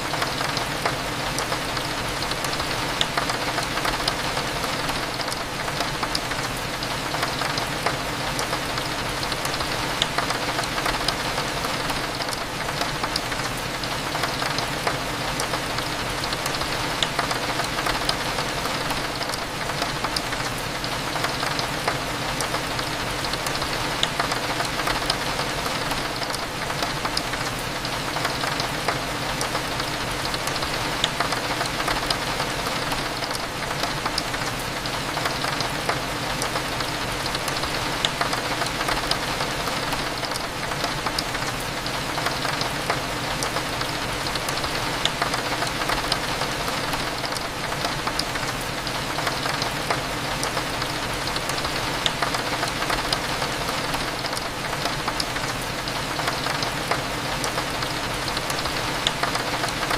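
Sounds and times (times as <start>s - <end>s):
rain tapping on a window: 0.0s - 59.9s.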